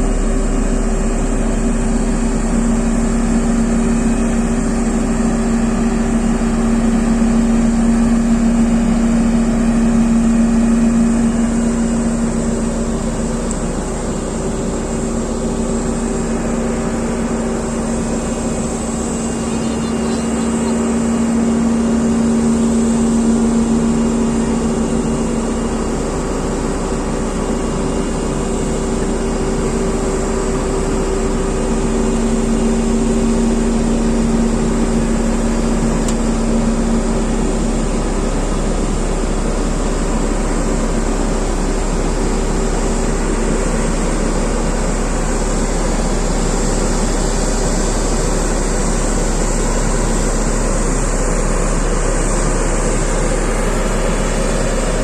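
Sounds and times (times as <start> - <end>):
road roller diesel engine running: 0.0 - 55.0.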